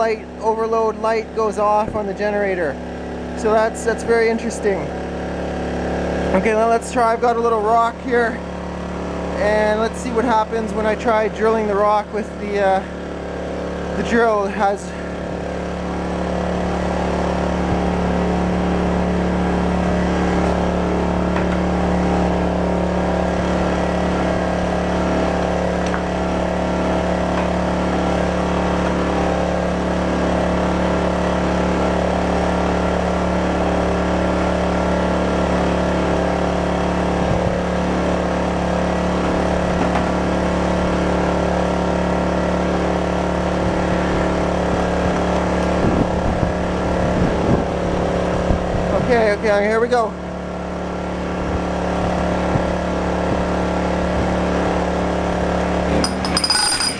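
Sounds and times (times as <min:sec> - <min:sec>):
generator engine running: 0:00.0 - 0:56.9.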